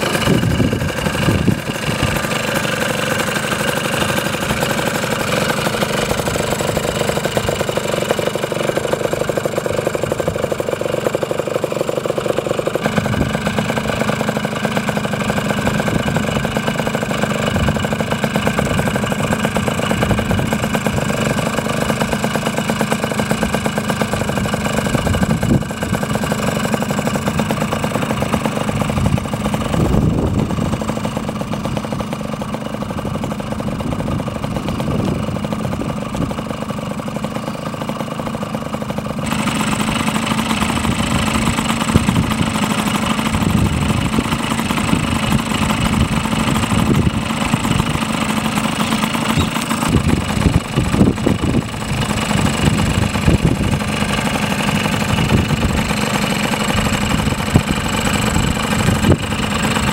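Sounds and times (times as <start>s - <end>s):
two-stroke motorcycle engine idling: 0.0s - 59.9s.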